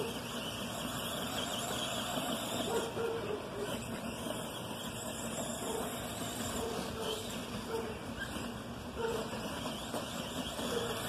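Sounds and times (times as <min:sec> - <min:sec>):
rc truck motor whirring: 0:00.0 - 0:11.0.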